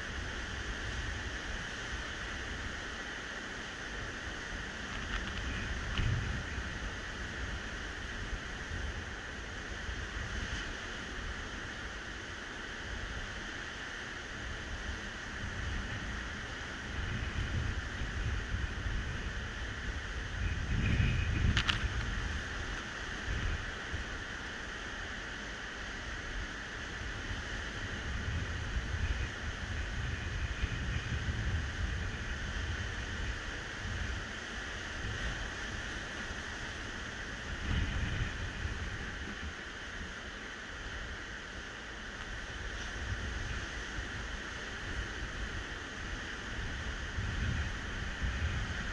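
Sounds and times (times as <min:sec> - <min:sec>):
wind rumbling on microphone: 0:00.0 - 0:48.9.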